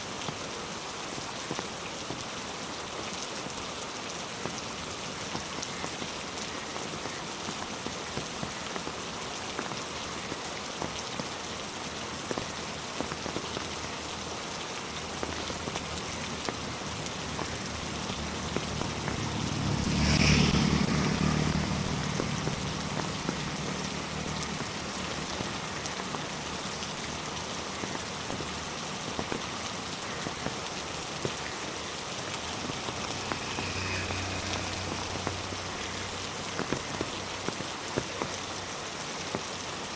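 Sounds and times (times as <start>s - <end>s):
heavy rain on road and trees: 0.0s - 39.9s.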